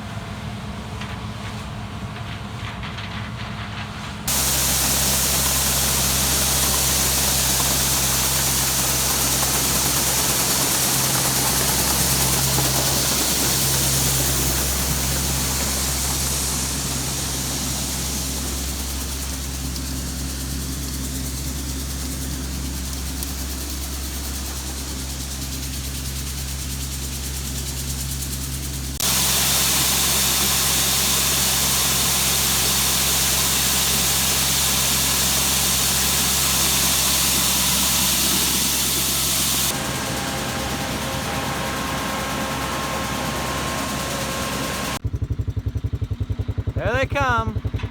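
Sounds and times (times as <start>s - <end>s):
farm machinery engine running: 0.0s - 47.9s
broad hiss: 4.3s - 45.0s.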